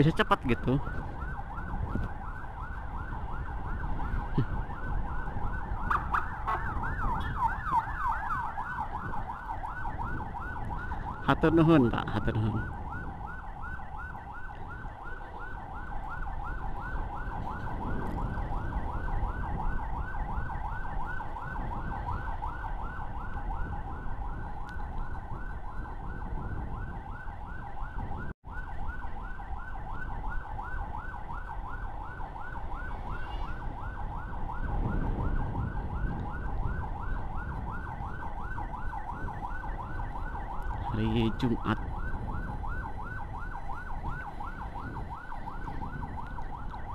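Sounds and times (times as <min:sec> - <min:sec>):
emergency siren yelping: 0:00.0 - 0:46.9
wind and road rumble: 0:00.0 - 0:46.9.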